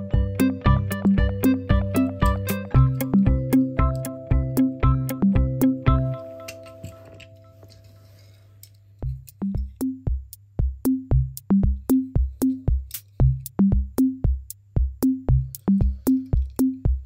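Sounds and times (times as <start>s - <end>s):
electronic music with drum machine: 0.0s - 7.7s, 9.0s - 17.0s.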